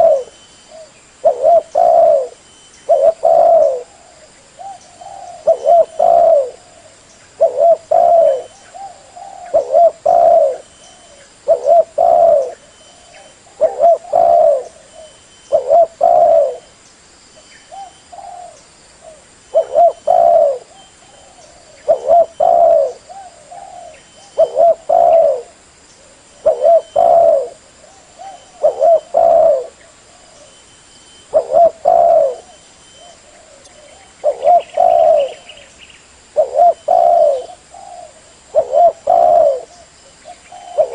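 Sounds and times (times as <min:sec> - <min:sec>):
dove cooing: 0:00.0 - 0:16.7, 0:17.7 - 0:30.6, 0:31.3 - 0:35.7, 0:36.3 - 0:40.9.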